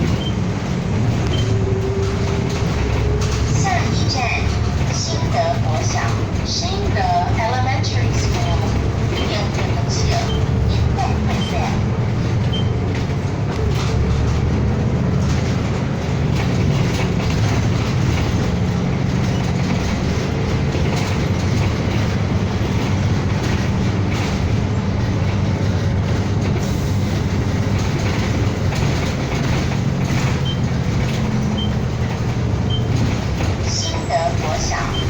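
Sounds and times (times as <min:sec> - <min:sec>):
bus engine drone: 0:00.0 - 0:35.0
light cabin rattles: 0:00.0 - 0:35.0
road noise: 0:00.0 - 0:35.0.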